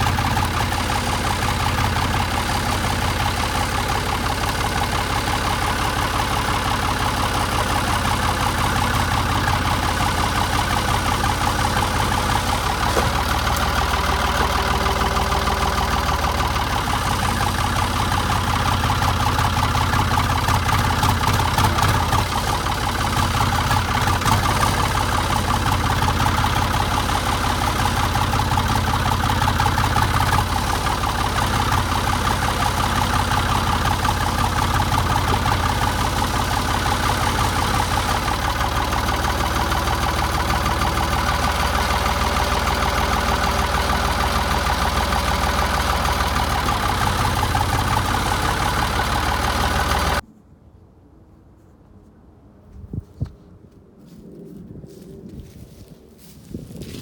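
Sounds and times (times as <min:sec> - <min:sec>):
engine running: 0:00.0 - 0:50.2.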